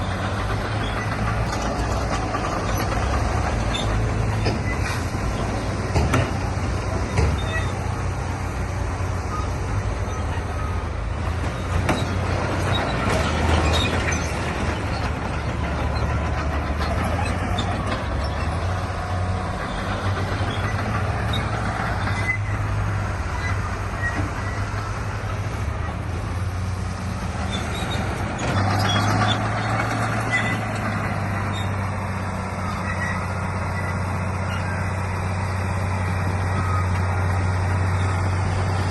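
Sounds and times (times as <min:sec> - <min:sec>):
heavy diesel machinery drone: 0:00.0 - 0:38.9.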